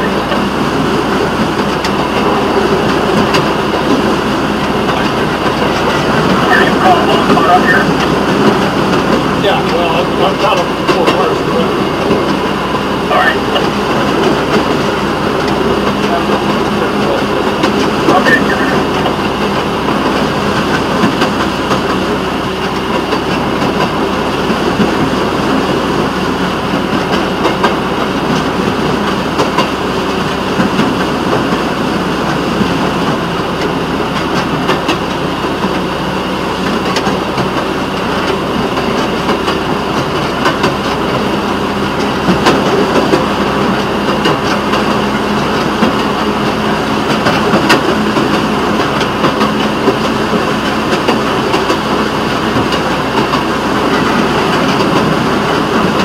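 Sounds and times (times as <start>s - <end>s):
dense rushing noise: 0.0s - 56.0s
rail motorcar engine: 0.0s - 56.0s
wheels clicking over rail joints: 0.0s - 56.0s.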